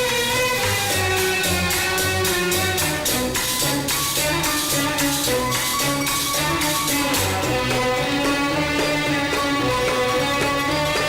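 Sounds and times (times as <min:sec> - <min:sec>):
instrumental melody: 0:00.0 - 0:11.0
jingling hand percussion: 0:00.0 - 0:11.0
steady percussion beat: 0:00.0 - 0:11.0.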